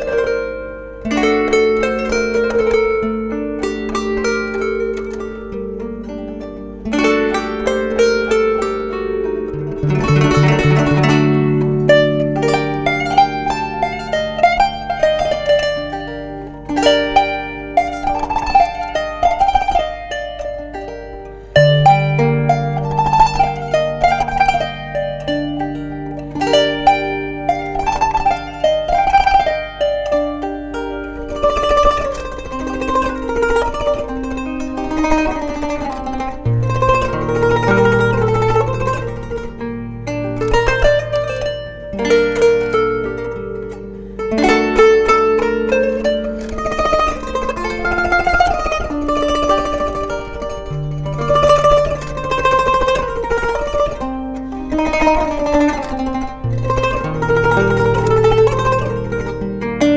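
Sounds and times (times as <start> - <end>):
plucked zither melody: 0.0 - 59.9.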